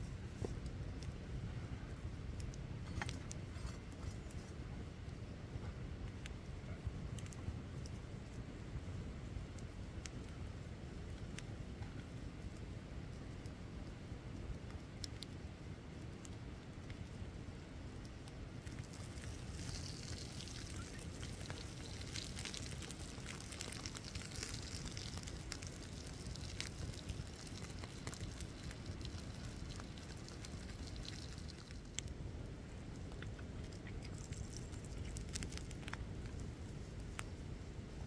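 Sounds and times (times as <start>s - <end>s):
low rumble of flames: 0.0s - 38.0s
wood fire crackling and popping: 2.1s - 37.5s.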